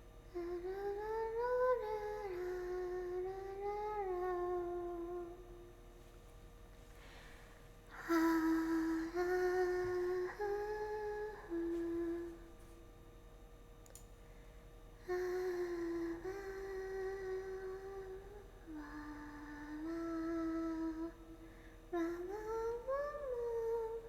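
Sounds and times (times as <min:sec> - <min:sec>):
woman humming: 0:00.0 - 0:06.1, 0:07.9 - 0:12.8, 0:15.0 - 0:24.0.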